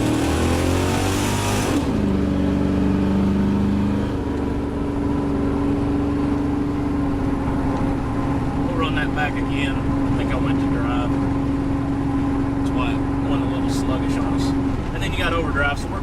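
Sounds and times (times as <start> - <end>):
truck engine accelerating: 0.0 - 16.0.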